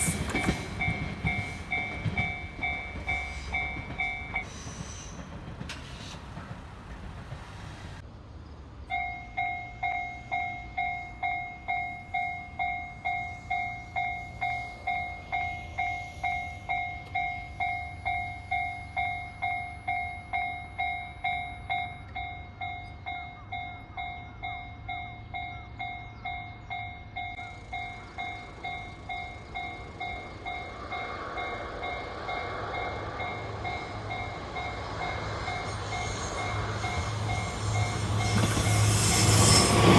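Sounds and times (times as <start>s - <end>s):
approaching train rushing: 0.0s - 22.8s, 23.6s - 39.9s.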